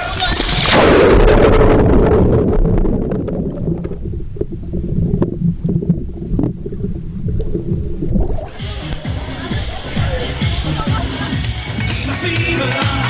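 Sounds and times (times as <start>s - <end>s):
muffled underwater churning: 0.0s - 11.3s.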